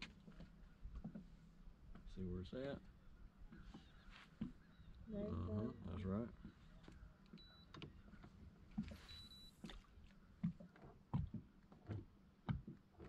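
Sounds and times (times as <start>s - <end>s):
water lapping against boat hull: 0.0s - 2.2s, 2.8s - 13.0s.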